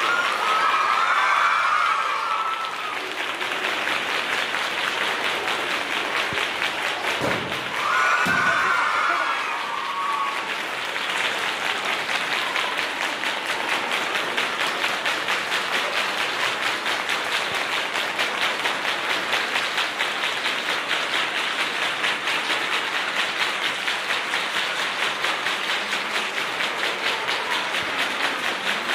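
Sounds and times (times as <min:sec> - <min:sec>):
crowd clapping in rhythm: 0:00.0 - 0:28.9.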